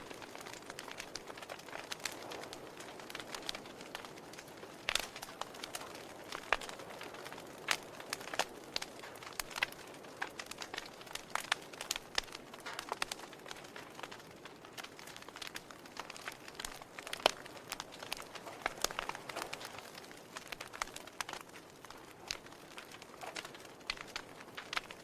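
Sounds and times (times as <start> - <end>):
fire soft hiss: 0.0 - 25.0
wood fire crackling and popping: 0.0 - 25.0.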